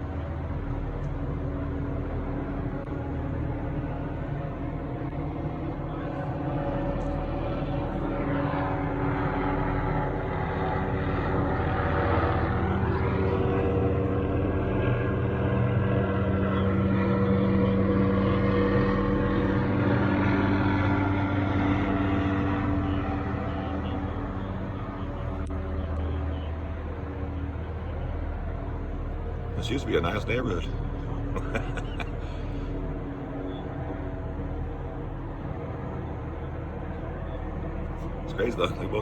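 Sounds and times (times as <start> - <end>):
helicopter flying over: 0.0 - 39.0.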